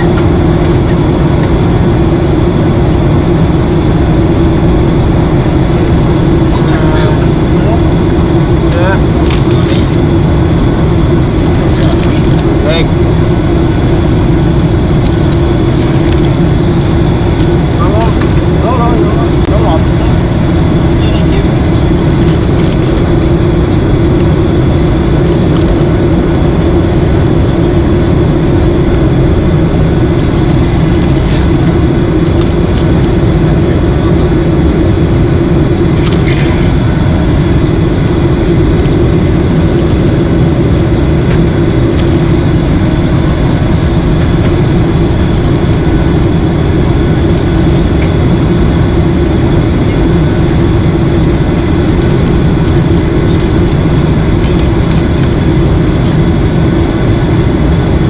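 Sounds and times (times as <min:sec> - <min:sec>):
aircraft cabin engine drone: 0:00.0 - 0:58.0
steady low hum: 0:00.0 - 0:58.0.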